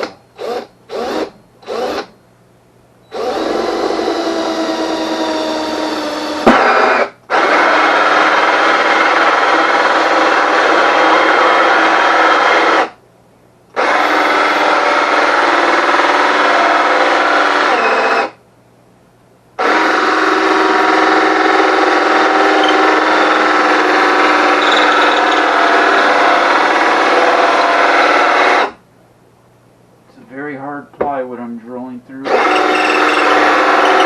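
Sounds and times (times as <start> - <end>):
power drill cutting plywood: 0.0 - 2.1, 3.1 - 13.0, 13.8 - 18.4, 19.6 - 28.8, 32.3 - 34.0.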